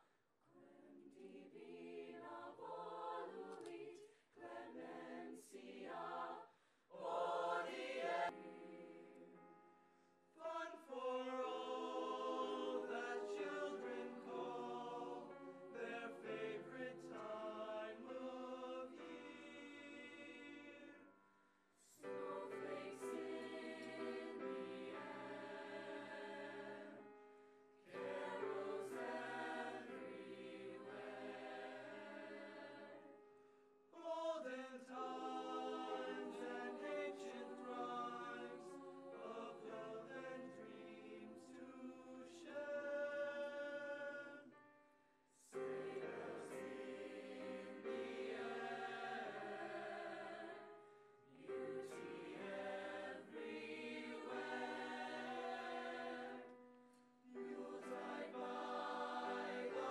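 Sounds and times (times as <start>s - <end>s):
mixed choir singing in parts: 0.6s - 9.4s, 10.4s - 21.1s, 21.9s - 27.0s, 27.8s - 33.0s, 34.0s - 44.4s, 45.5s - 56.6s, 57.3s - 59.9s.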